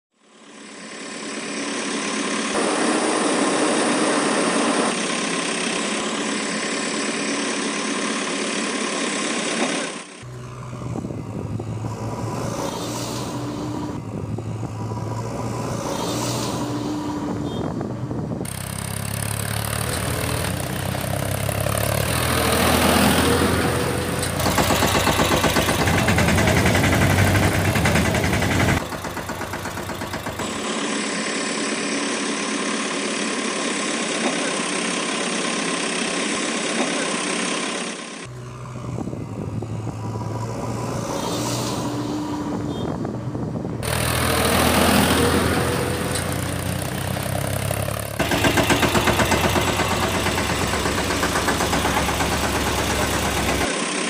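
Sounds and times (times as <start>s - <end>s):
engine running and revving: 0.1s - 54.0s.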